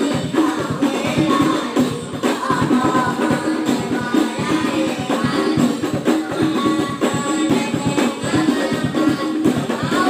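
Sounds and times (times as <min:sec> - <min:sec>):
boy singing into microphone: 0:00.0 - 0:10.0
frame drums playing: 0:00.0 - 0:10.0.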